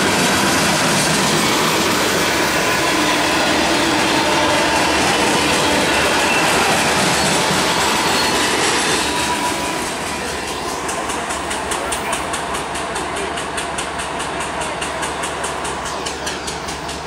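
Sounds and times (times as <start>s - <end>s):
train rumble: 0.0s - 17.0s
train wheels clicking on rails: 0.0s - 17.0s.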